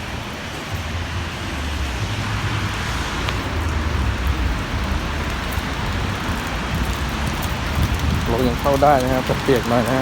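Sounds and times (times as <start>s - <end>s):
car moving slowly: 0.0s - 10.0s.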